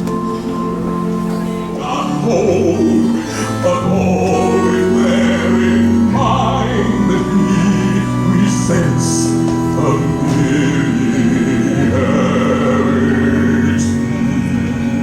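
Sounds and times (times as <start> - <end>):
instrumental accompaniment: 0.0 - 15.0
voices singing long notes: 0.0 - 15.0.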